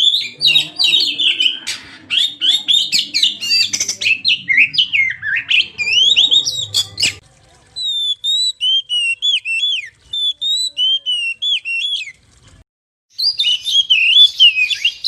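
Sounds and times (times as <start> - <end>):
songbird whistling and chattering: 0.0 - 7.2, 7.8 - 12.1, 13.1 - 15.0.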